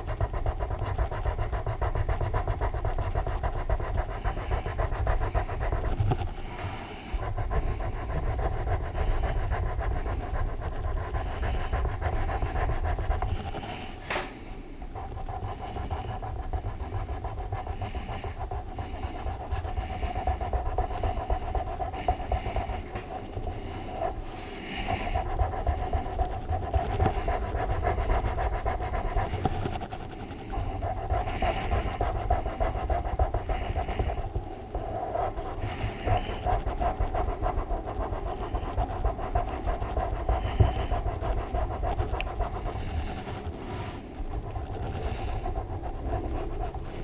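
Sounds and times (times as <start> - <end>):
heavy breathing: 0.0 - 47.0
shading strokes scratching on paper: 0.0 - 47.0.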